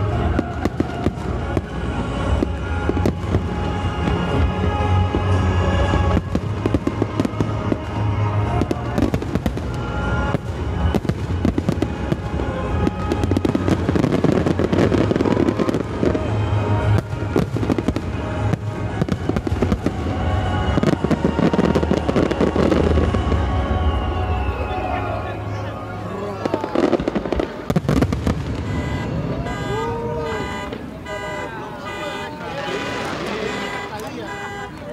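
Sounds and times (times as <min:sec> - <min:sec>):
background music: 0:00.0 - 0:34.9
crackling firework stars: 0:00.0 - 0:34.9.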